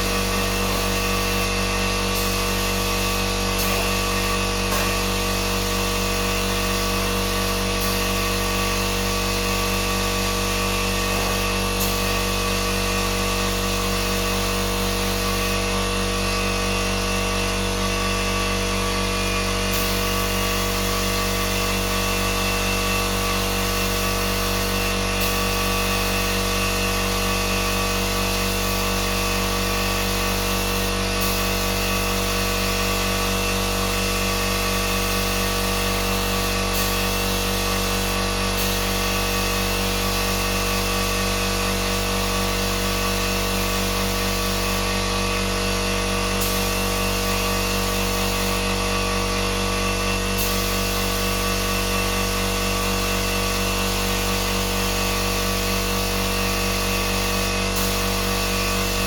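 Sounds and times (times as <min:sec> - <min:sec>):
electric power tool running: 0:00.0 - 0:59.0.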